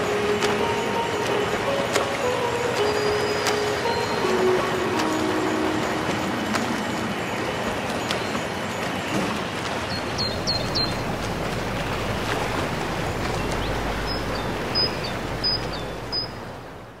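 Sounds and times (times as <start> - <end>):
waves washing against rocky shore: 0.0 - 17.0.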